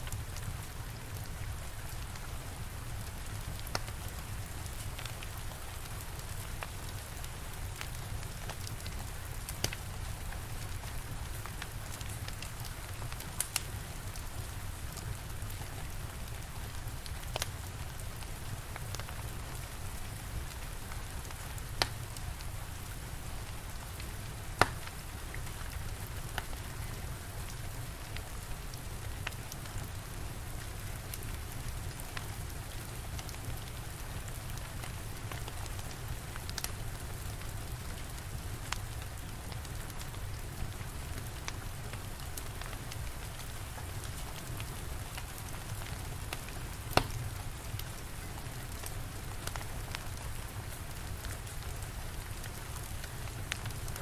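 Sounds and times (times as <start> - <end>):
crackling fire popping: 0.0 - 54.0
steady rain falling: 0.0 - 54.0.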